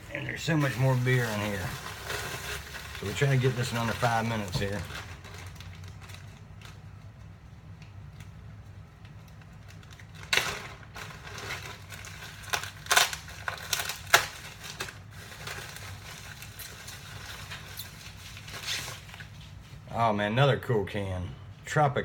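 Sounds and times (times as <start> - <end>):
packing material crinkling: 0.0 - 7.3, 8.0 - 19.8
low steady hum: 0.0 - 22.0.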